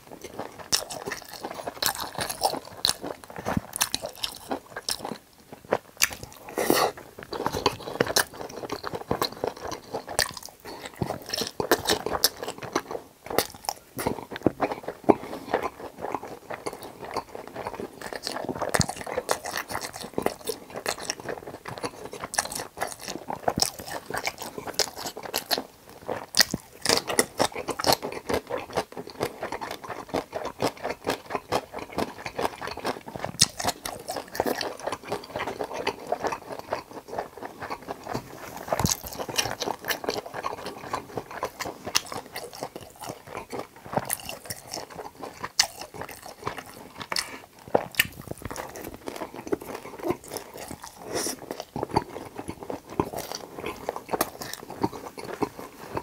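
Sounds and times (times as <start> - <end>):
crunching crispy food: 0.1 - 56.0.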